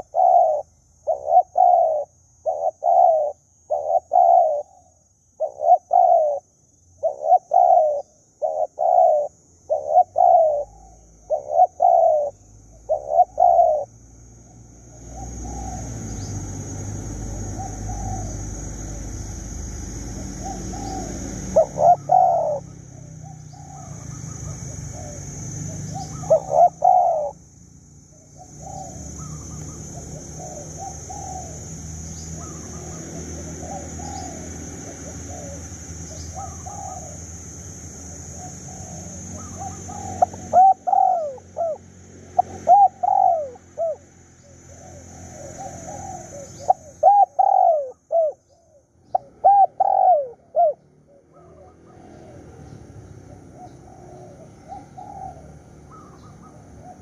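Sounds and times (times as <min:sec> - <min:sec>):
doves cooing: 0:00.0 - 0:13.9, 0:14.9 - 0:27.5, 0:28.1 - 0:37.4, 0:38.1 - 0:57.0.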